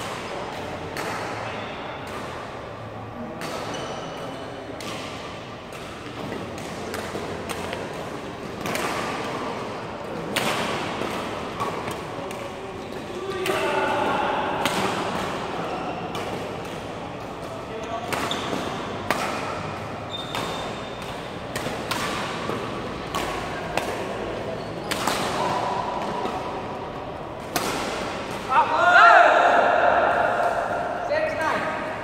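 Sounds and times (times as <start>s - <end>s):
racket smacking shuttlecock: 0.0s - 2.6s, 3.3s - 28.6s.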